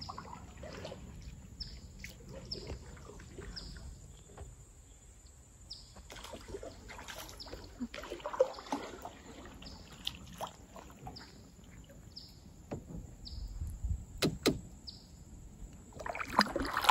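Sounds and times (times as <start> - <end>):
low water noise: 0.0 - 16.9.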